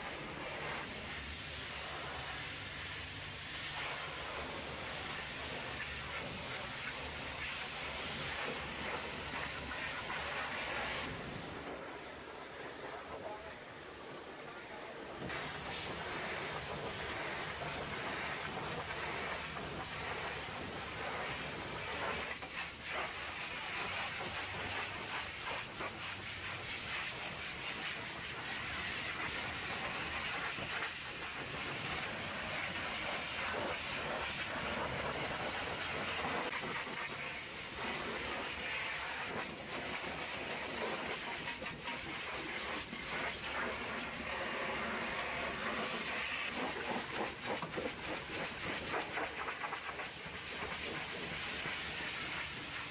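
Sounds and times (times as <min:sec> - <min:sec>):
pressure washer jet hissing: 0:00.0 - 0:11.6, 0:15.2 - 0:52.9.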